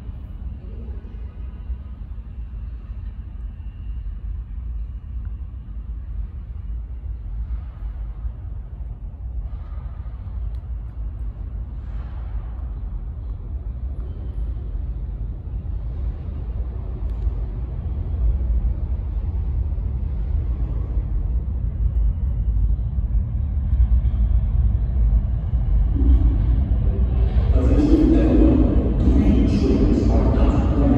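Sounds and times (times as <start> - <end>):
subway train rumble: 0.0 - 30.9.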